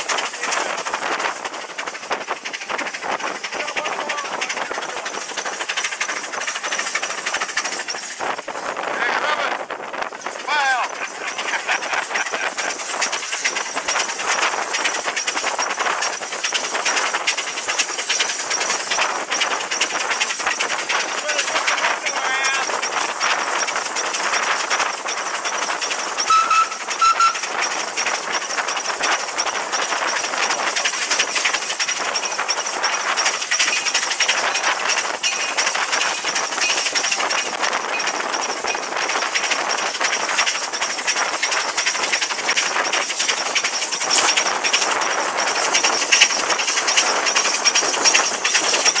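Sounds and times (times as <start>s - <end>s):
steam engine clatter: 0.0s - 49.0s
steam hissing: 0.0s - 49.0s.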